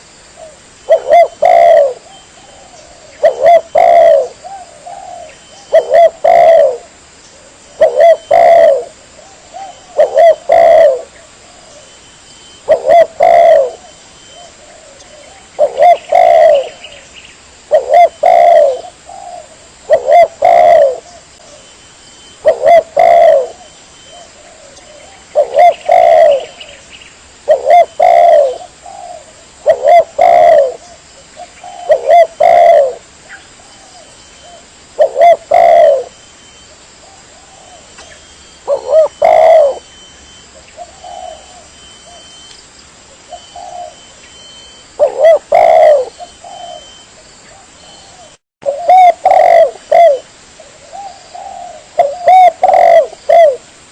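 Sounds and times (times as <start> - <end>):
dove cooing: 0.0 - 17.0, 17.6 - 26.8, 27.4 - 42.5, 43.2 - 53.7.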